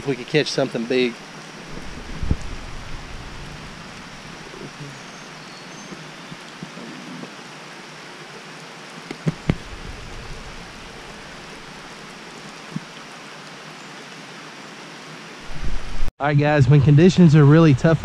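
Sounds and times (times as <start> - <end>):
rain hissing: 0.0 - 16.1.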